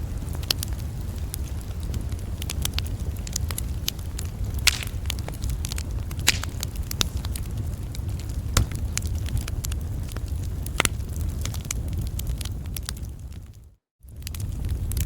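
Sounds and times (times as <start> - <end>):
campfire crackling: 0.0 - 15.0
wood fire popping and snapping: 0.1 - 15.0.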